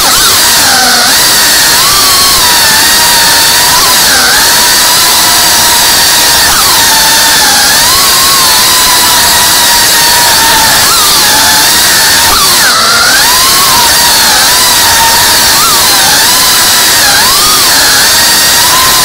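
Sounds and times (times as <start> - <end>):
drone motors and propellers whining: 0.0 - 19.0.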